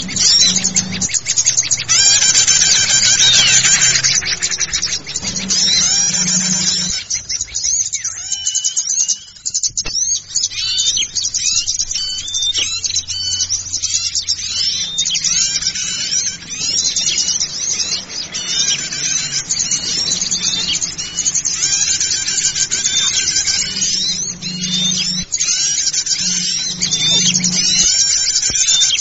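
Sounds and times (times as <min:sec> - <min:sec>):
low steady hum: 0:00.0 - 0:08.4, 0:09.2 - 0:29.0
small birds chirping and twittering: 0:00.0 - 0:29.0.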